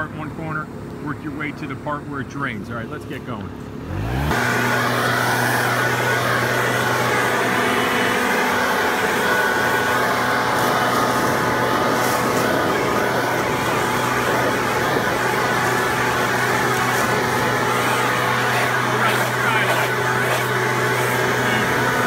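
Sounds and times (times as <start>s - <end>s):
leaf blower engine running: 2.8s - 22.0s
air rushing from blower tube: 4.3s - 22.0s.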